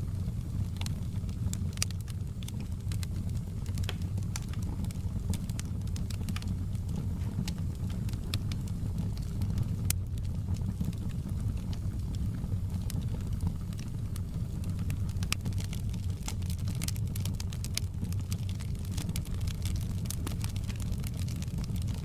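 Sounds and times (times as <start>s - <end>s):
fire popping and snapping: 0.0s - 22.0s
wood fire crackling: 0.0s - 22.0s.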